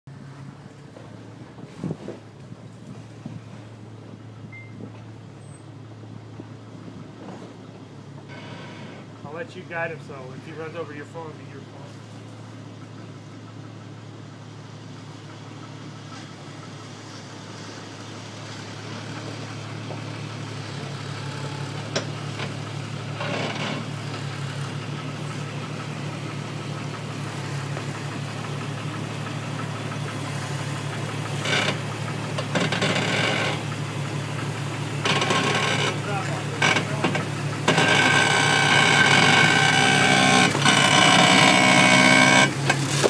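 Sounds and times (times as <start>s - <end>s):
off-road vehicle engine running: 0.0s - 43.0s.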